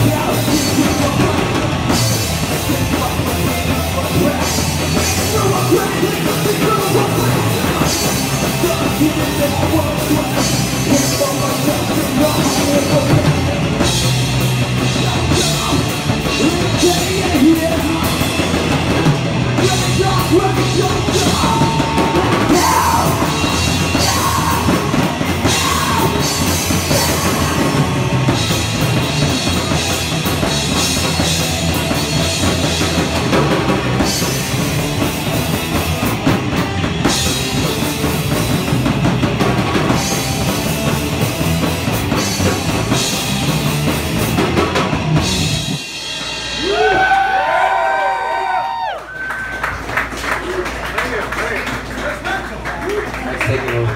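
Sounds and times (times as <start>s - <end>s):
drum kit: 0.0s - 49.0s
live rock band playing: 0.0s - 50.0s.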